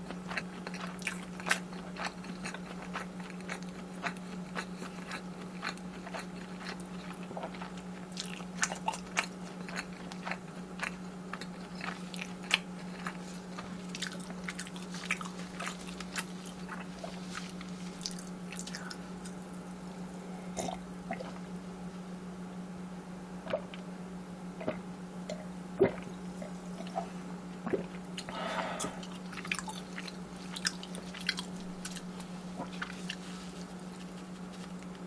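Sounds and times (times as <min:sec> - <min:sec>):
wet chewing: 0:00.0 - 0:20.0, 0:25.8 - 0:35.0
crisp food crunching: 0:00.0 - 0:21.4, 0:27.7 - 0:35.0.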